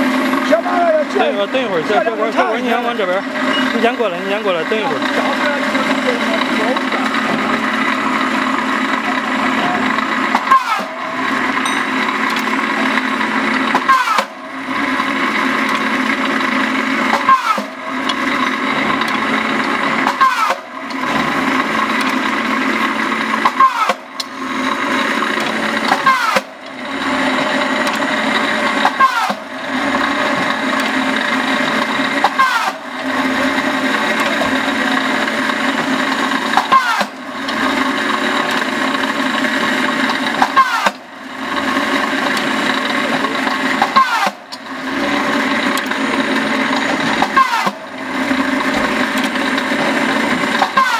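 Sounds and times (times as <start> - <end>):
rebar cutting machine running: 0.0 - 50.9.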